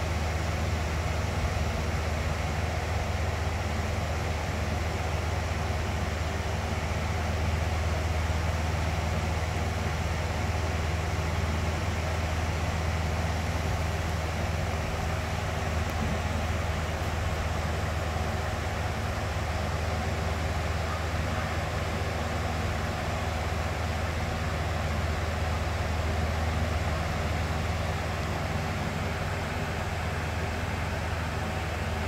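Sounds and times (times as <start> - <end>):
electric fan running: 0.0 - 32.0.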